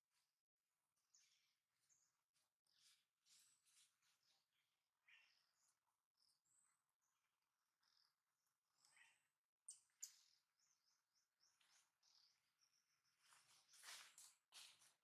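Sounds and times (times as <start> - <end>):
faint high bird chirps: 1.0 - 14.8.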